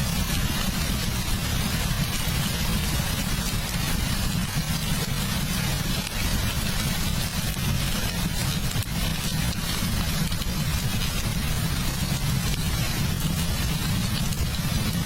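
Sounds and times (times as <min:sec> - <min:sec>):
continuous low rumble: 0:00.0 - 0:15.0
heavy rain: 0:00.0 - 0:15.0.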